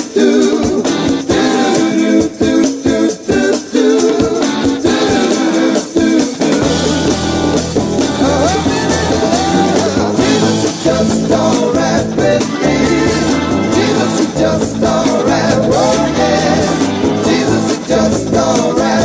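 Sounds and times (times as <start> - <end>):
rock song playing: 0.0 - 19.0.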